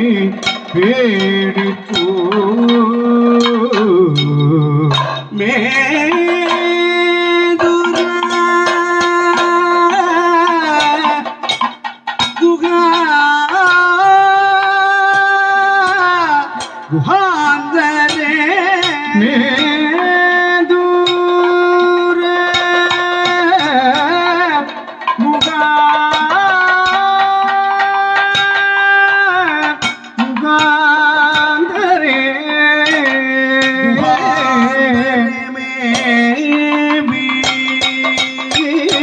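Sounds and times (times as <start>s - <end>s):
men singing long notes: 0.0s - 11.5s, 12.4s - 39.0s
drumming: 0.0s - 39.0s.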